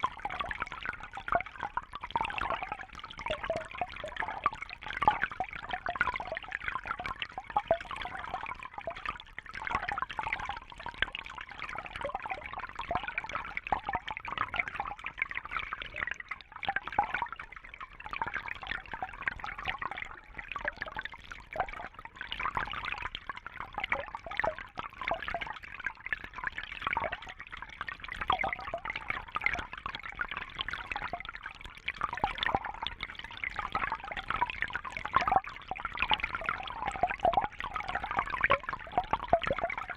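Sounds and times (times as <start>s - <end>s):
bubbles: 0.0s - 39.9s.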